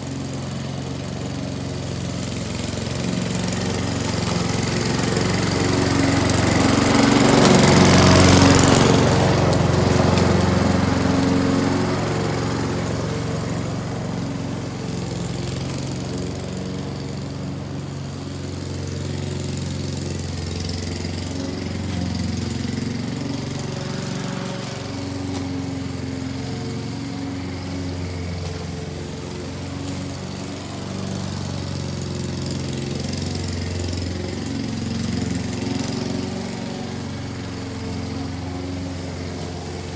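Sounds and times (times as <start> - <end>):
lawn mower engine cutting grass: 0.0 - 39.9.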